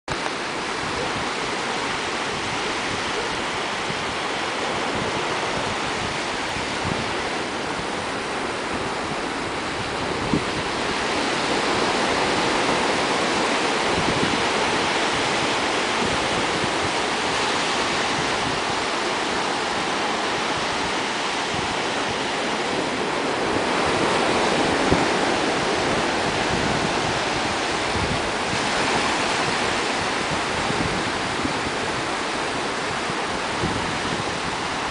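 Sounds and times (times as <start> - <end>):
small waves breaking on beach: 0.1 - 34.9.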